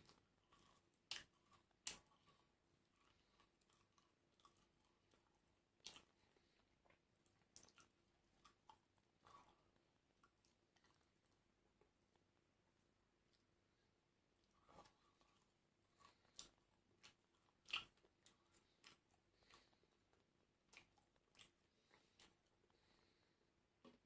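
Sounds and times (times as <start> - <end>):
faint chewing: 0.0 - 24.0.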